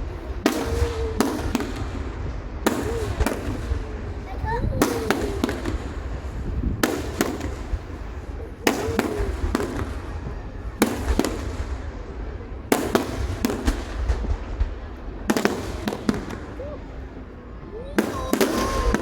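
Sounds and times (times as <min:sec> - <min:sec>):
continuous low rumble: 0:00.0 - 0:19.0
fireworks bursting with sharp bangs: 0:00.0 - 0:19.0.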